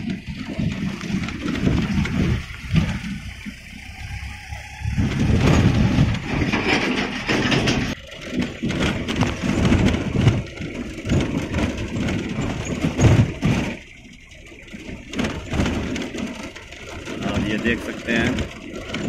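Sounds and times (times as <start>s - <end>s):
car body knocks and rattles: 0.0s - 3.2s, 4.9s - 14.0s, 14.6s - 19.0s
tyre noise rumble: 0.0s - 19.0s.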